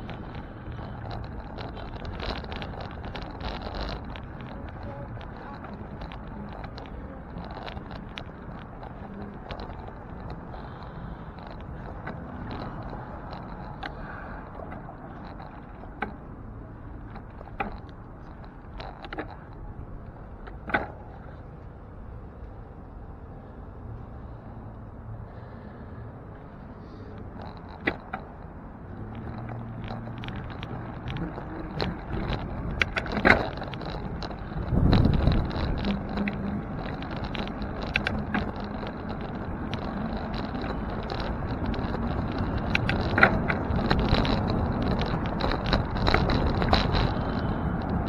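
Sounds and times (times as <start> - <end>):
clicks and rattles: 0.0 - 21.4, 27.1 - 48.0
bicycle road and wind noise: 0.0 - 48.0
vehicle engine hum: 0.0 - 48.0.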